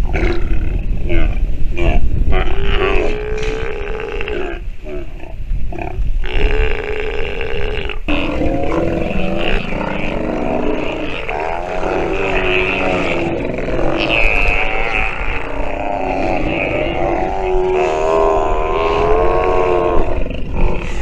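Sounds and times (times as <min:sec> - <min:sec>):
sea lions bellowing and growling: 0:00.0 - 0:21.0.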